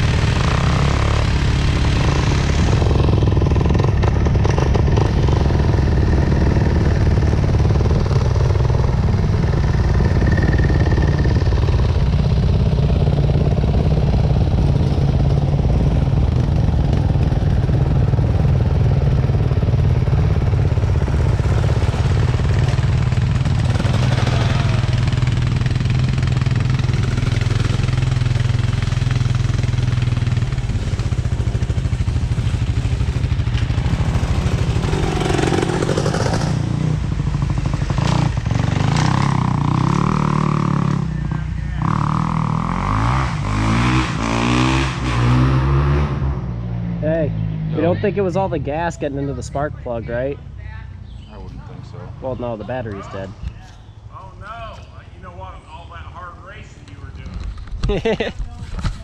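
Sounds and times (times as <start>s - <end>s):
motorcycle engine running: 0.0s - 54.4s, 57.0s - 59.0s.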